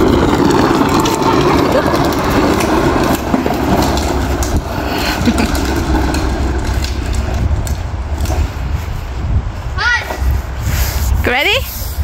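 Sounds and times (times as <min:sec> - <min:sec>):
plastic wheels rolling on asphalt: 0:00.0 - 0:12.0.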